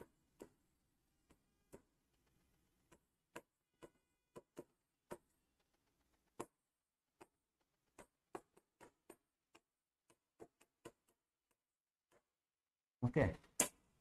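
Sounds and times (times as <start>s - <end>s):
chalk tapping on blackboard: 0.0s - 12.3s.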